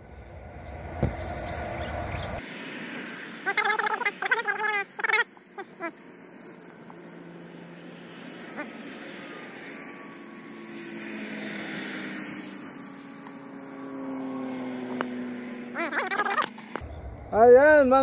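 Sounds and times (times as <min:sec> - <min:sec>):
vehicles passing on expressway: 0:00.0 - 0:18.0.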